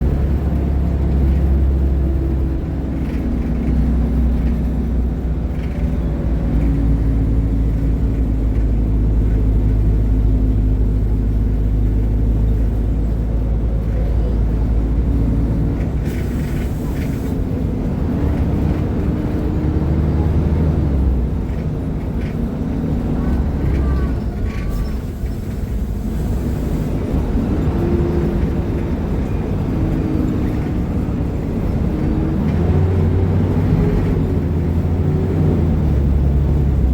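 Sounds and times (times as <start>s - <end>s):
bus diesel engine running: 0.0s - 36.9s.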